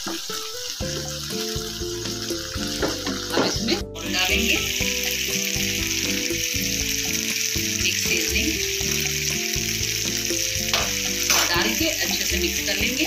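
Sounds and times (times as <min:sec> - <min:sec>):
background music: 0:00.0 - 0:13.0
vegetables sizzling in a pan: 0:00.0 - 0:13.0.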